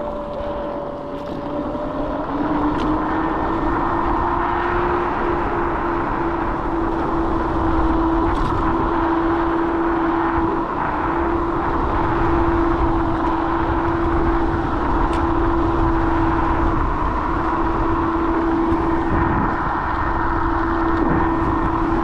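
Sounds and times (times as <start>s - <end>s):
steady constant-pitch whine: 0.0s - 22.0s
wind and road rumble: 0.0s - 22.0s.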